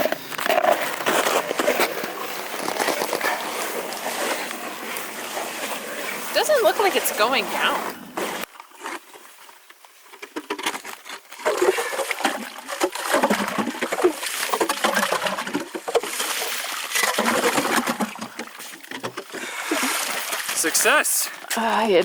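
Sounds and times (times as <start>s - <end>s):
slush splashing: 0.7s - 8.4s, 11.4s - 22.0s.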